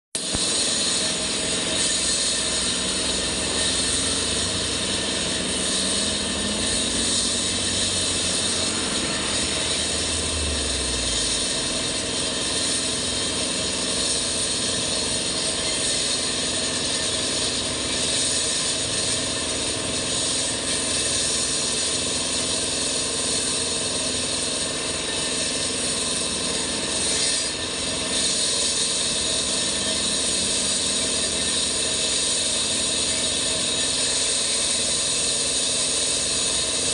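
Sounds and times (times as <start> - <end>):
concrete cutter engine running: 0.2 - 36.9.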